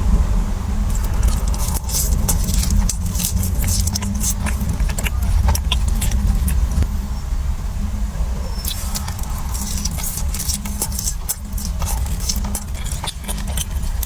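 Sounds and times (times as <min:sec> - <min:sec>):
steady low rumble: 0:00.0 - 0:14.0
crunching crispy chicken: 0:00.9 - 0:06.9, 0:08.6 - 0:14.0.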